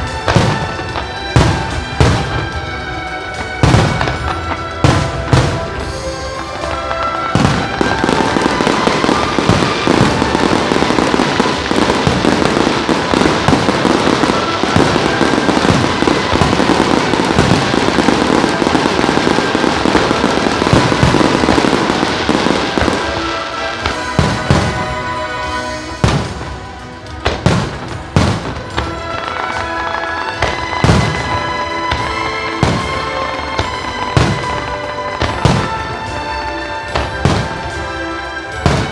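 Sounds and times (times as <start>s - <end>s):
fireworks cracking: 0.0s - 38.9s
music playing: 0.0s - 38.9s.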